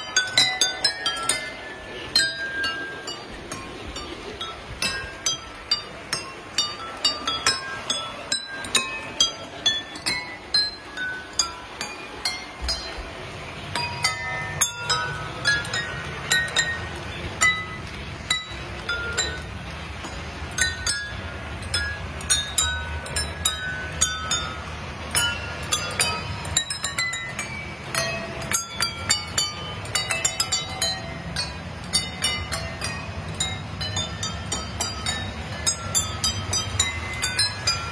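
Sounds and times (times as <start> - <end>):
mallet striking water glasses: 0.0 - 37.9.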